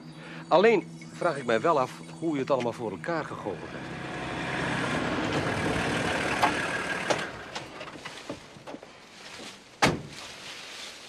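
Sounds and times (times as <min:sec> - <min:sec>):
van engine and tyre noise: 0:00.0 - 0:11.0.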